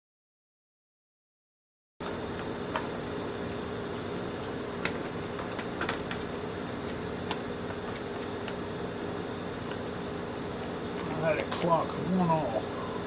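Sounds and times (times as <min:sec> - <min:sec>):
workshop machine hum: 0:02.0 - 0:13.0.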